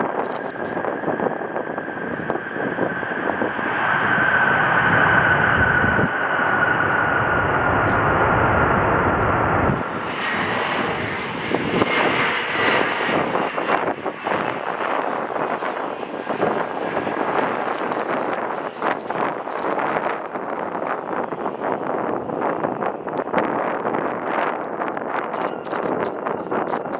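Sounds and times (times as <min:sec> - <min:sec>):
jet engines whining: 0:00.0 - 0:23.1
regional jet engines high whine: 0:00.0 - 0:26.9.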